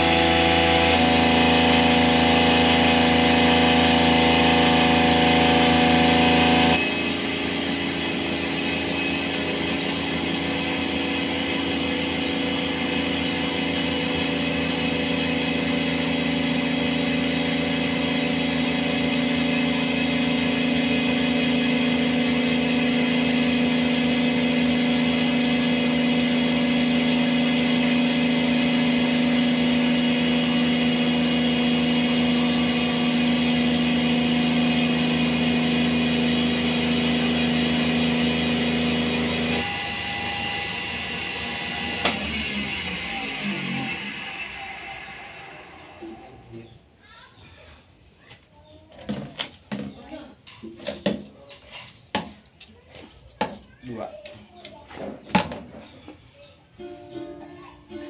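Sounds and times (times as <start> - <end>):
cotton candy machine motor humming: 0.0 - 47.2.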